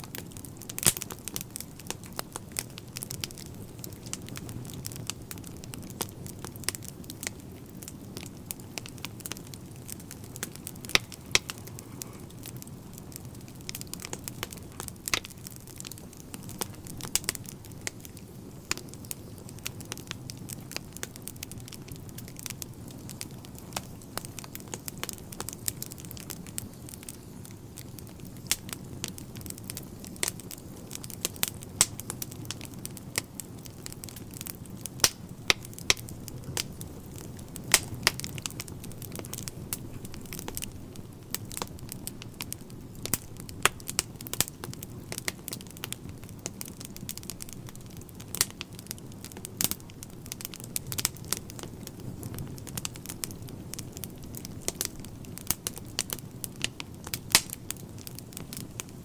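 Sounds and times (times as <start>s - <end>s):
fire low rumble: 0.0s - 59.0s
wood fire crackling: 0.0s - 59.0s.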